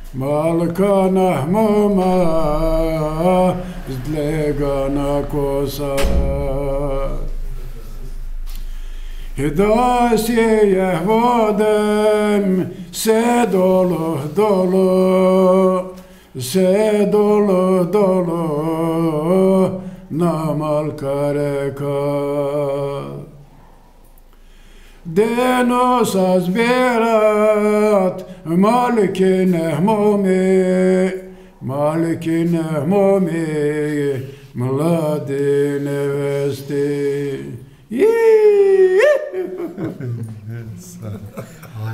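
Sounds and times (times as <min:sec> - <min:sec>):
man singing unaccompanied: 0:00.0 - 0:07.5, 0:09.4 - 0:23.4, 0:25.0 - 0:39.7.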